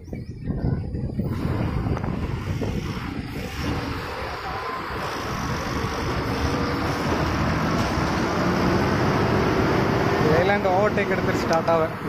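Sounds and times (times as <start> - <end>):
road noise: 0.0 - 12.0
heavy diesel truck engines: 0.9 - 12.0
lorry passing close by: 1.3 - 12.0.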